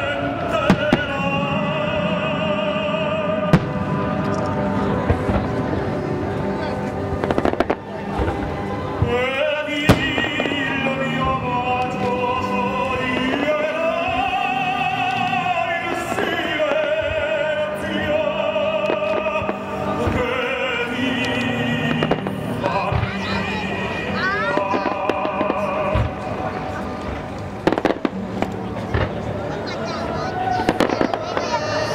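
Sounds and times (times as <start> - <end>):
fireworks bangs: 0.0 - 2.2, 3.4 - 6.0, 7.0 - 23.7, 24.3 - 31.9
operatic singing with orchestra: 0.0 - 5.8, 7.3 - 28.2.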